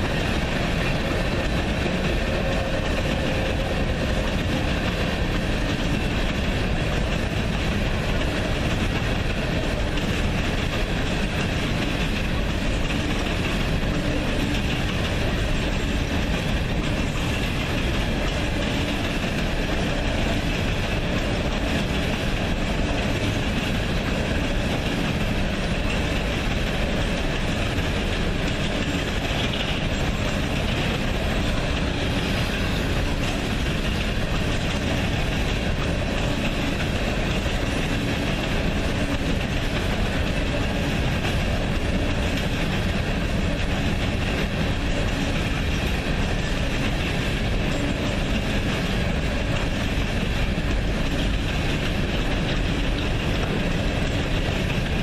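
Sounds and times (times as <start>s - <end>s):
train cars rolling on track: 0.0s - 55.0s.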